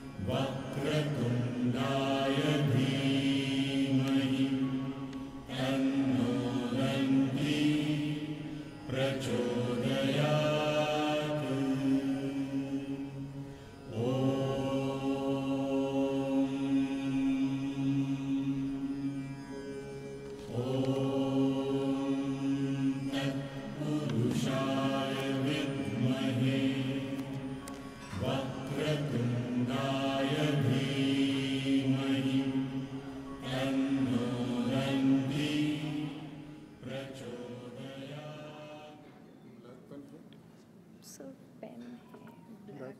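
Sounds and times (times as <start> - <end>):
devotional chant: 0.0 - 40.2.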